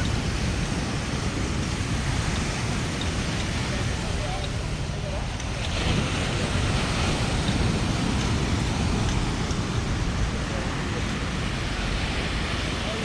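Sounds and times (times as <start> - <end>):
road traffic: 0.0 - 13.0
surf: 0.0 - 13.0
wind: 0.0 - 13.0.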